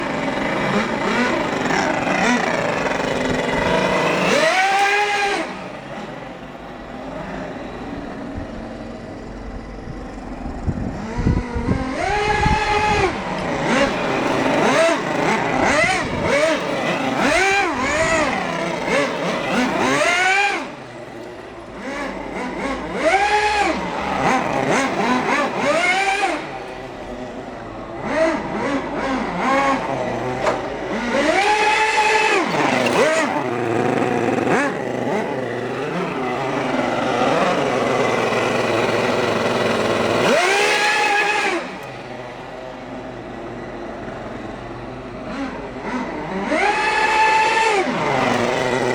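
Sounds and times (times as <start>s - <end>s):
model rotary engine revving: 0.0s - 48.9s.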